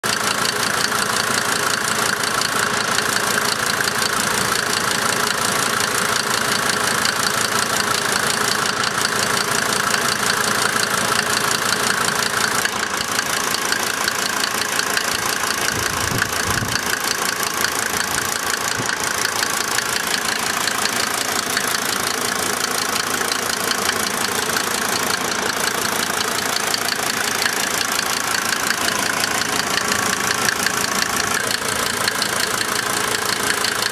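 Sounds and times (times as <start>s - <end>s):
diesel engine idling roughly: 0.0s - 33.9s.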